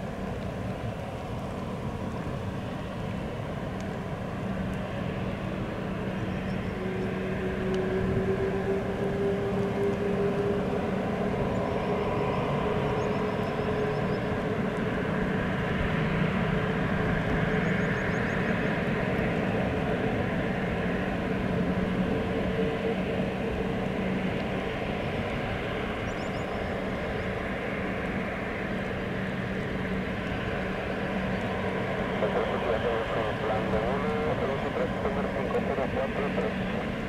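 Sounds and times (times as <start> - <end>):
jet engines whining: 1.6 - 37.0.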